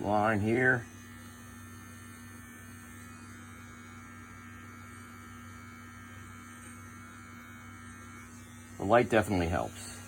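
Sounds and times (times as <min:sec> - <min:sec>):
electric trimmer motor humming: 0:00.0 - 0:10.0.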